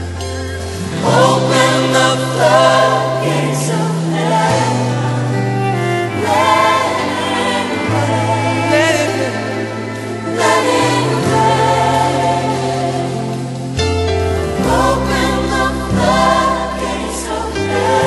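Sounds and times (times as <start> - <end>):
choir singing over a band: 0.0 - 18.0
held bass notes: 0.0 - 18.0.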